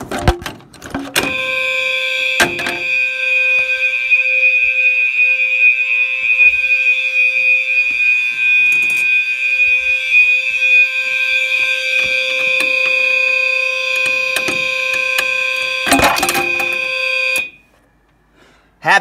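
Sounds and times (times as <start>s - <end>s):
fire alarm horns blaring: 0.9s - 18.1s.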